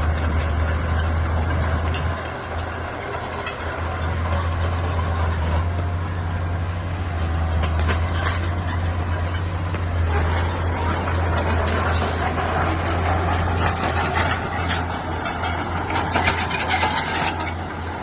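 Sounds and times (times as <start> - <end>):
bulldozer diesel engine running: 0.0 - 18.0
metallic clanks and rattles: 0.0 - 18.0.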